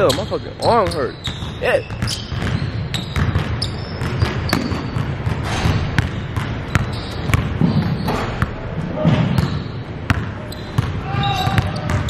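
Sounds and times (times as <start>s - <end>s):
basketball bouncing on wooden floor: 1.2s - 12.0s.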